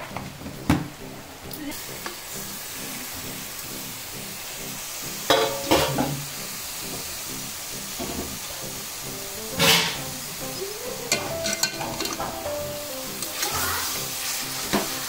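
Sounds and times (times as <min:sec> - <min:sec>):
chicken sizzling in hot oil: 0:01.6 - 0:15.0.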